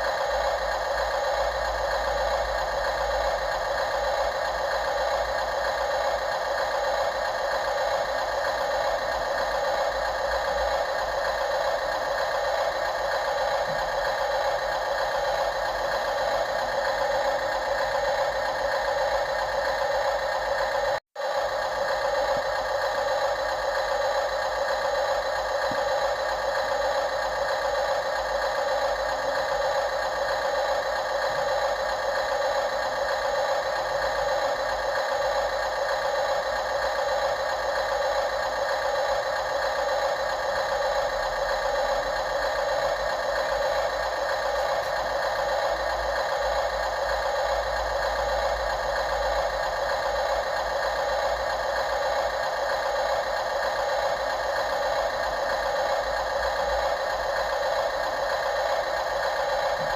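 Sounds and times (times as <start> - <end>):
remote-control machine engine drone: 0.0 - 59.9.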